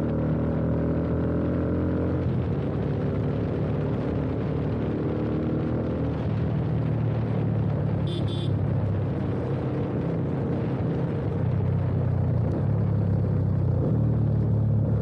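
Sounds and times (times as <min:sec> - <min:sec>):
wind and road noise: 0:00.0 - 0:15.0
motorcycle engine running: 0:01.8 - 0:15.0.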